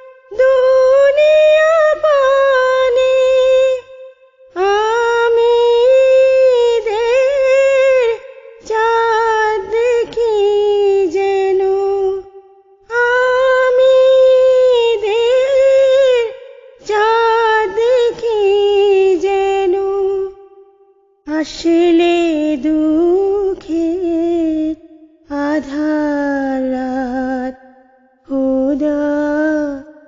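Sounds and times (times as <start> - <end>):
woman singing devotional song: 0.0 - 30.0.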